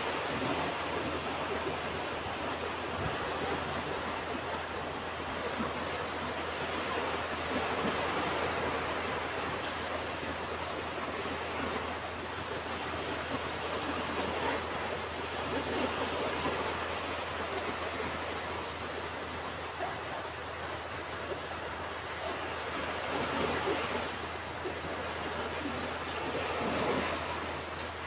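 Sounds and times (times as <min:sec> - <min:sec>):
waves breaking on a beach: 0:00.0 - 0:28.0.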